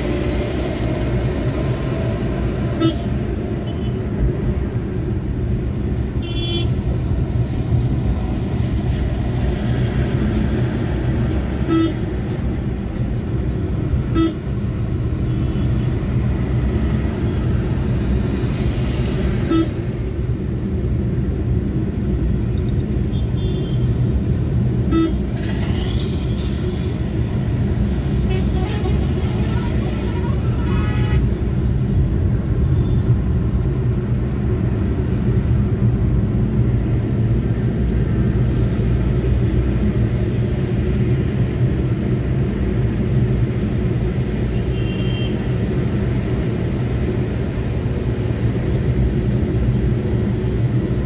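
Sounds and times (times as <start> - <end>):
road and engine rumble: 0.0 - 51.0.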